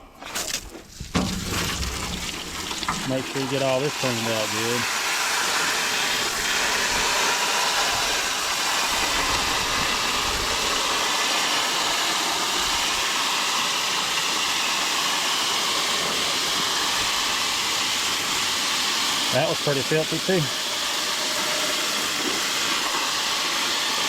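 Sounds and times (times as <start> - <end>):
water jetting from hose: 0.4 - 24.0.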